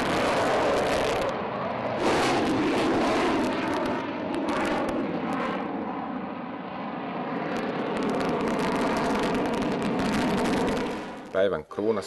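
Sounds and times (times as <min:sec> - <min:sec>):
fighter jet engine roar overhead: 0:00.0 - 0:12.0.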